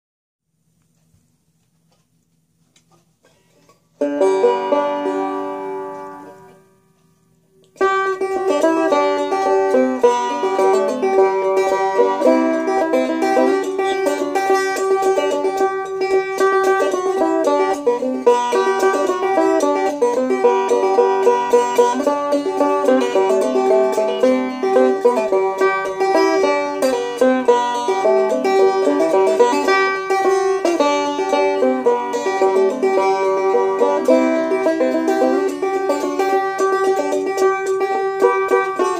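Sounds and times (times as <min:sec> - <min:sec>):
banjo tune: 0:02.9 - 0:07.0, 0:07.6 - 0:38.9
banjo chord ringing: 0:04.0 - 0:06.7, 0:07.8 - 0:38.9.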